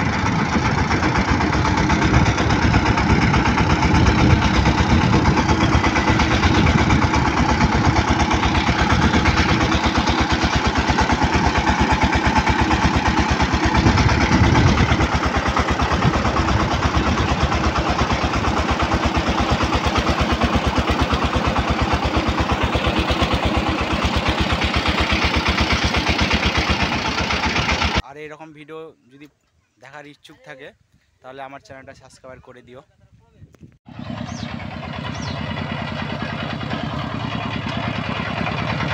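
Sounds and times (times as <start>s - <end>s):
diesel engine running: 0.0s - 28.0s, 33.9s - 38.9s.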